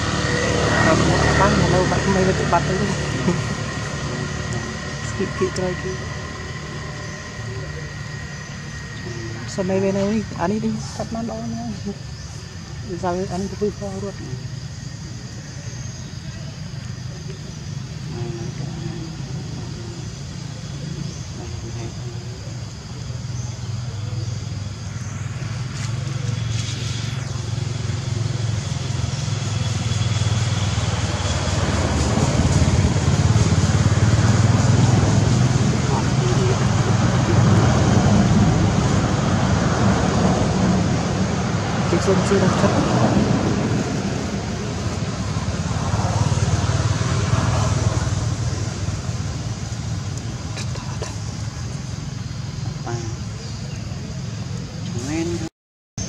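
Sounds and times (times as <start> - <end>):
low rumble with hiss: 0.0 - 55.5
vehicle engine running: 0.0 - 55.5.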